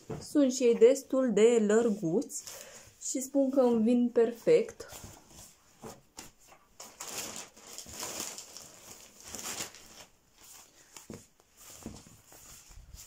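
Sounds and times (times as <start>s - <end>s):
fabric rustling: 1.7s - 13.0s.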